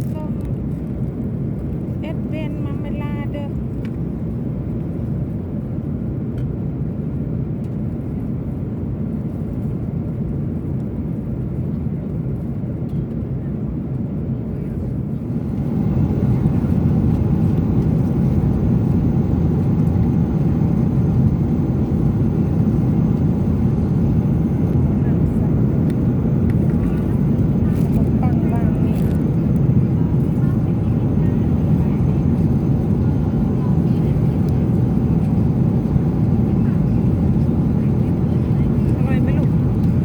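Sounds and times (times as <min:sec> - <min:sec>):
jet engines and airflow rushing: 0:00.0 - 0:40.0.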